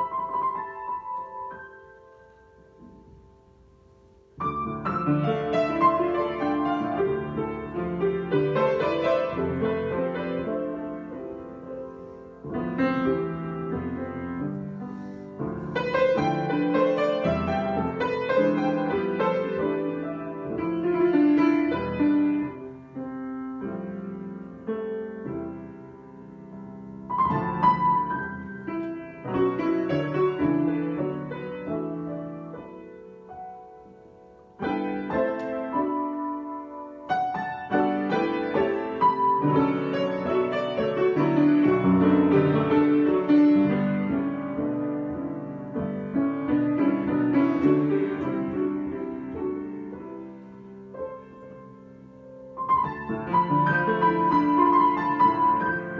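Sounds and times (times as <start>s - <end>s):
solo piano improvisation: 0.0s - 55.9s.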